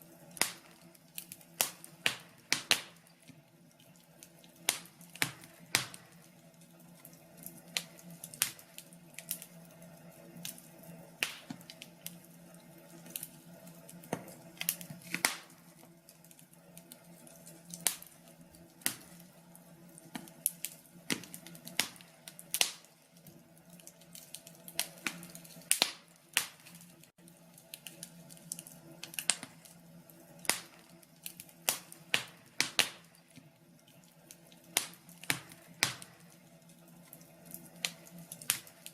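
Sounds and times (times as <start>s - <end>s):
faint steady hum: 0.0s - 38.9s
wood fire crackling and popping: 0.0s - 38.9s.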